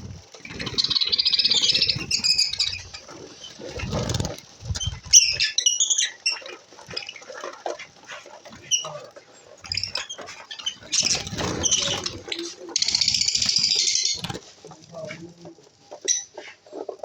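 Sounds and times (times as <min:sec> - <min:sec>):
lovebirds chirping: 0:00.0 - 0:17.0
wings fluttering: 0:00.0 - 0:17.0.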